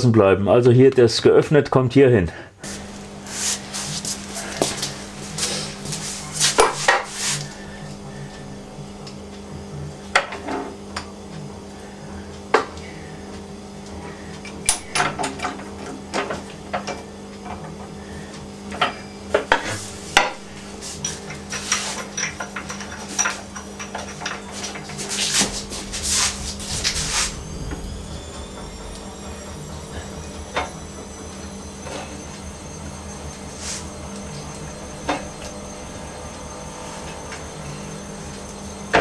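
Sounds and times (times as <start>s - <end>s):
steady low hum: 2.3s - 39.0s.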